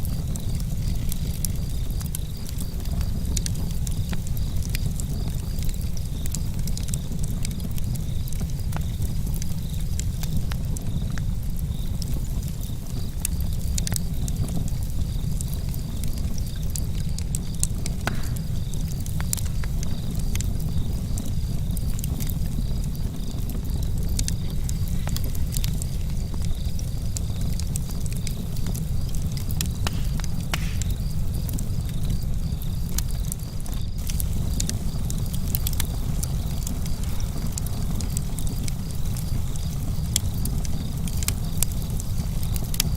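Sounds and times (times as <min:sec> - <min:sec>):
campfire crackling and popping: 0:00.0 - 0:42.9
low rumble of fire: 0:00.0 - 0:42.9.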